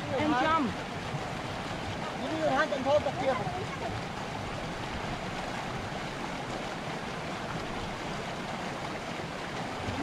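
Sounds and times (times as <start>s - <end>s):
creek rushing over rocks: 0.0s - 10.0s.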